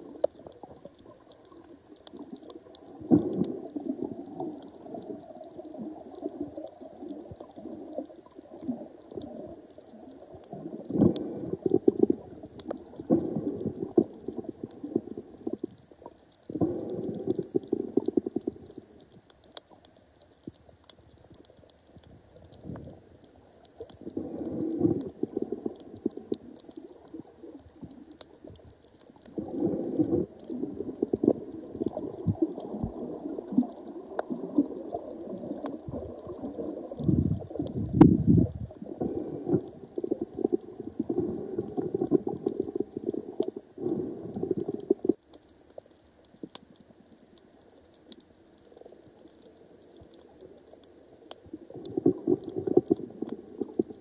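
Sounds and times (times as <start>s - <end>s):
faint crackling clicks: 0.0s - 54.0s
muffled underwater bubbling: 0.0s - 54.0s.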